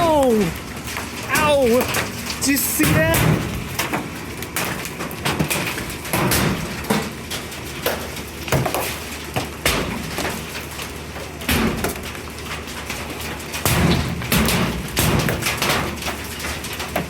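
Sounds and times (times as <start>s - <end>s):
cracks of big hailstones hitting: 0.0s - 17.0s
hail pelting hard surfaces: 0.0s - 17.0s
rush of falling hail and rain: 0.0s - 17.0s.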